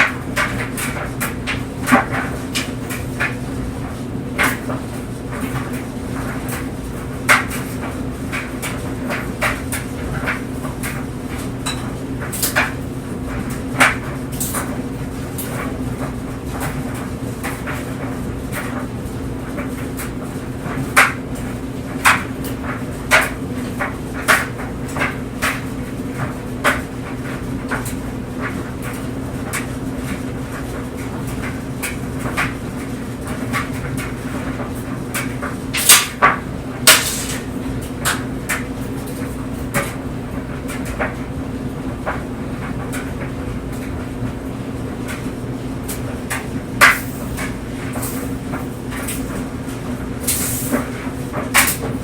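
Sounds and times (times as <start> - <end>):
clothes dryer humming: 0.0 - 52.0
clothes tumbling in dryer drum: 0.0 - 52.0.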